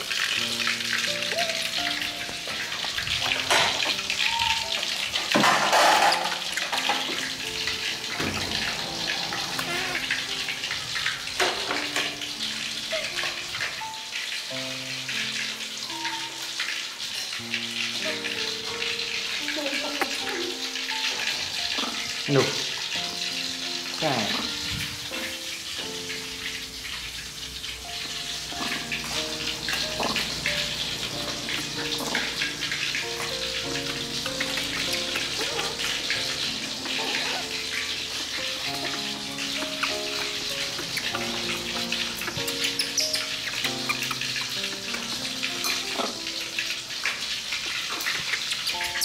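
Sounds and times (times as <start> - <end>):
steady crackling hiss: 0.0 - 5.4, 6.3 - 49.0
food sizzling in a wok: 0.0 - 49.0
slow background music: 0.0 - 49.0.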